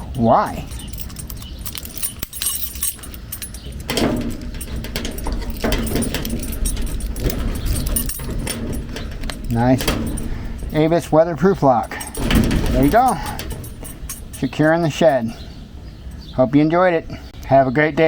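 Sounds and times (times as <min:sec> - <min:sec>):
padlock clinking and jangling: 0:00.0 - 0:16.3.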